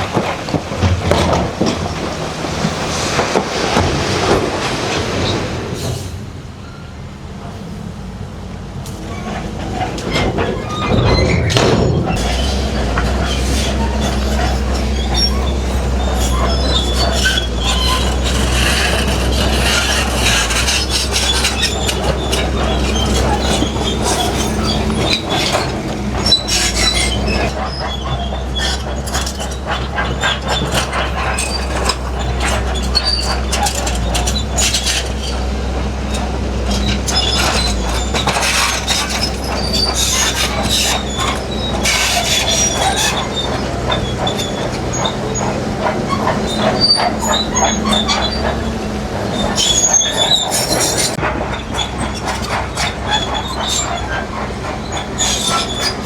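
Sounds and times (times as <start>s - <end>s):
bulldozer diesel engine: 0.0s - 56.0s
steel tracks clanking and squealing: 0.0s - 56.0s.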